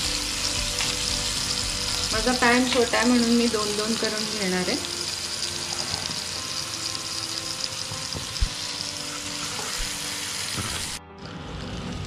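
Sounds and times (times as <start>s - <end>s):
pineapple sizzling in a pan: 0.0s - 12.0s.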